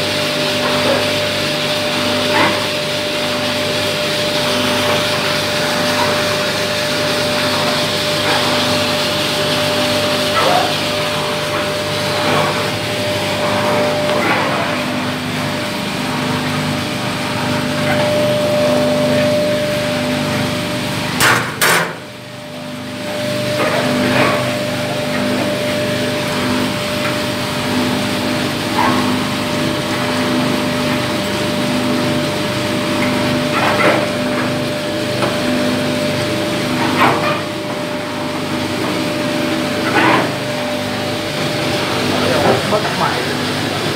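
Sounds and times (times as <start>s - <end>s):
coffee roaster humming: 0.0s - 43.9s
drum motor and blower whine: 0.0s - 43.9s.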